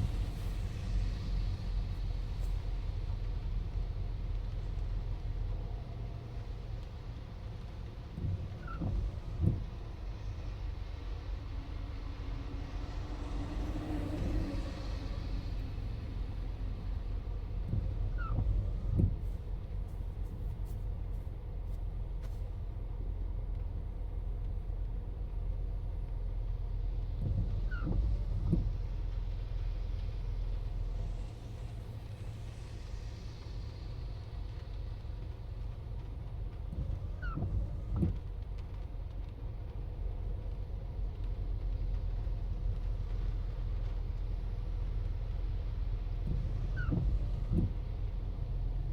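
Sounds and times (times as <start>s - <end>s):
car engine rumble: 0.0s - 48.9s.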